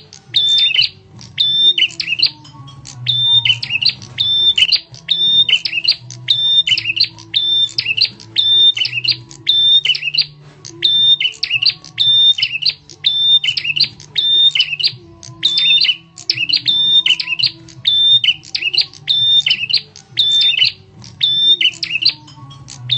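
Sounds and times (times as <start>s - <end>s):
sharp repeated bird call: 0.0s - 22.9s.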